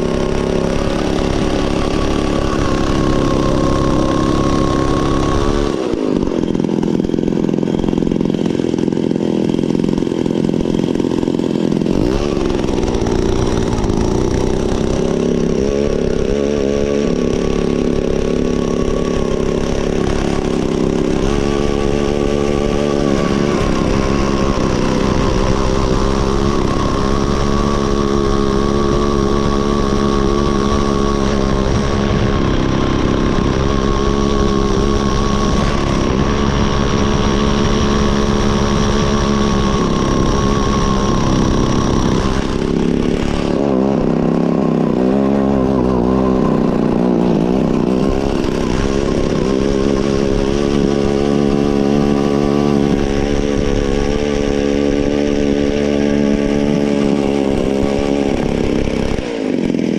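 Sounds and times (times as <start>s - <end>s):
ice auger engine running: 0.0s - 59.9s.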